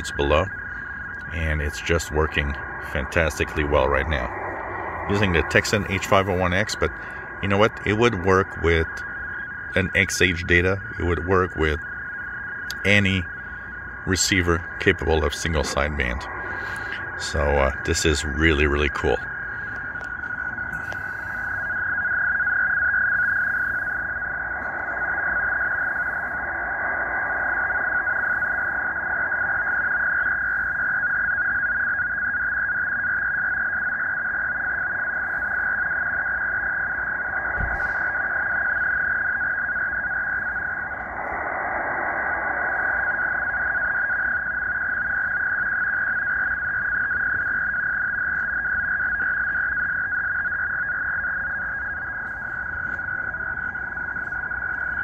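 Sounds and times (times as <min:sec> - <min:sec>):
shortwave static: 0:00.0 - 0:55.0
two-tone data signal warble: 0:00.0 - 0:55.0.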